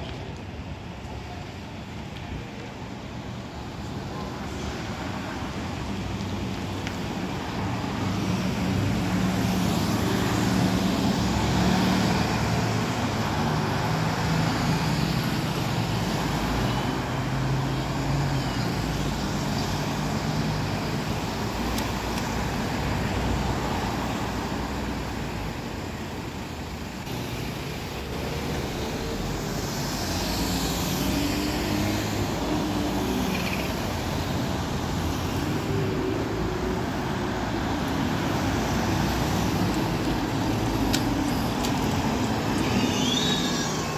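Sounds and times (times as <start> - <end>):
road traffic: 0.0 - 43.9
bus engine approaching: 2.6 - 43.9
bus diesel engine pulling away: 8.0 - 43.9.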